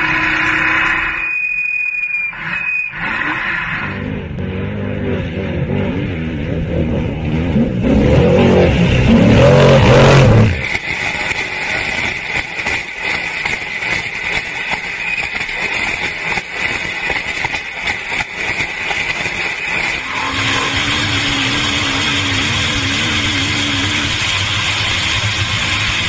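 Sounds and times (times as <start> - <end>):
engine drone: 0.0 - 26.0
off-road buggy rushing and rattling: 2.4 - 26.0.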